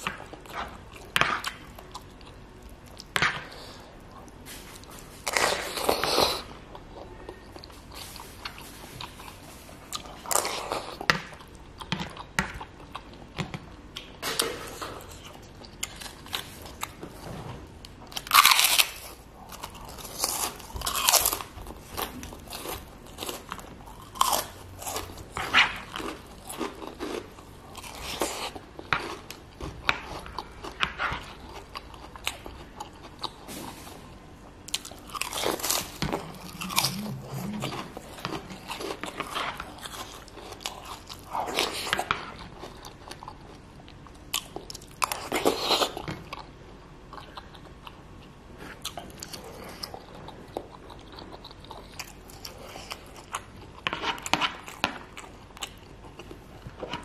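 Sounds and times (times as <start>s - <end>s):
person chewing and crunching food: 0.0s - 57.0s.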